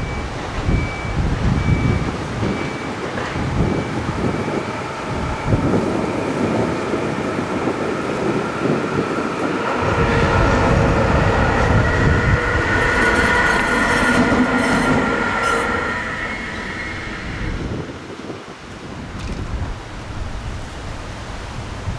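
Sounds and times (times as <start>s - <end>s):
electric locomotive whine: 0.0s - 19.3s
wheels rumbling on rails: 0.0s - 21.9s.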